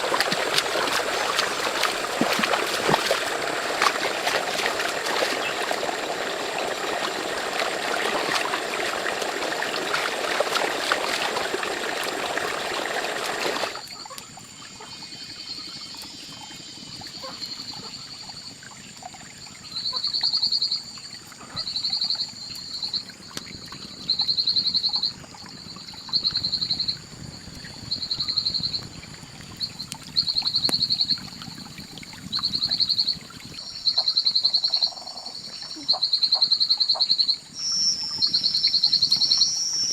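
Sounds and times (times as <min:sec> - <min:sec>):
running water: 0:00.0 - 0:36.0.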